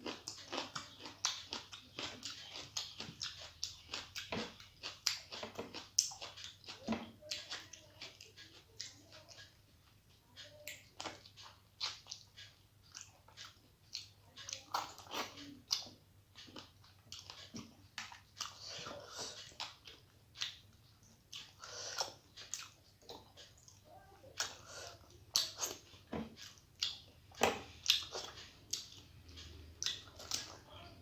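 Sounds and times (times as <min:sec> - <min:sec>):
person chewing food: 0:00.0 - 0:31.0.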